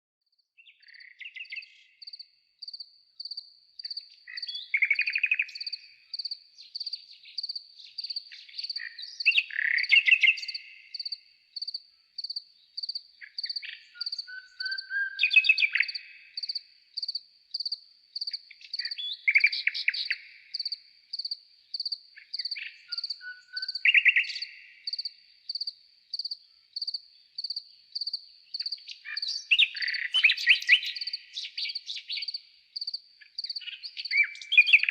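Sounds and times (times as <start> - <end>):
slowed nightingale song: 0.3 - 34.9.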